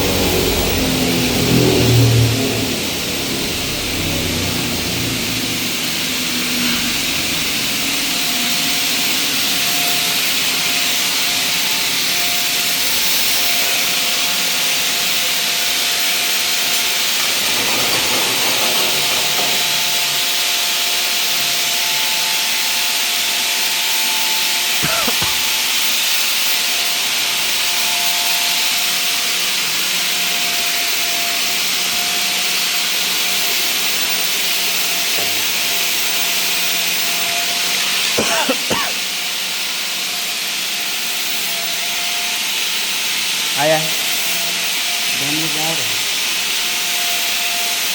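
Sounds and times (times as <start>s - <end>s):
mill machine rushing hiss: 0.0s - 27.9s, 28.5s - 47.9s.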